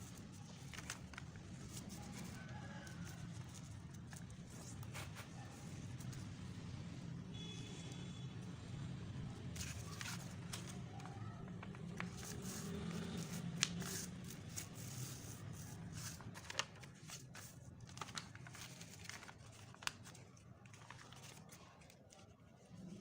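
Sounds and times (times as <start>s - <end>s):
paper crinkling and folding: 0.0s - 6.4s, 9.4s - 23.0s.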